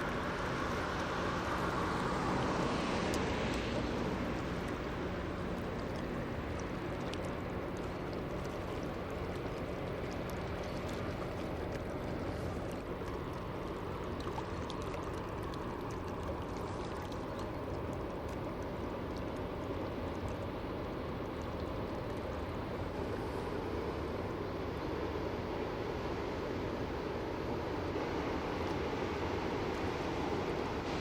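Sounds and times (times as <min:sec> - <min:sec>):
rushing water wash: 0:00.0 - 0:31.0
ship engine drone: 0:00.0 - 0:31.0.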